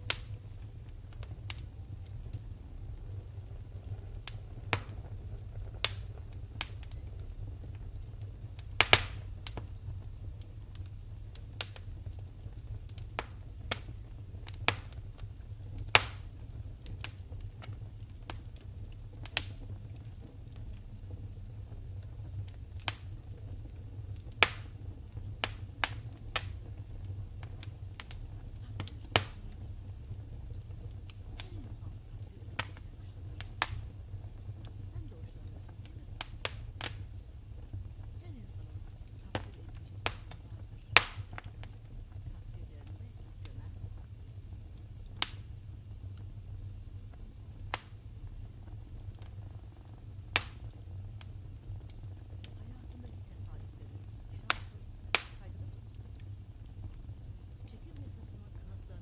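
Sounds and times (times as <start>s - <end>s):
low rumble: 0.0s - 59.0s
wood fire crackling: 0.0s - 59.0s.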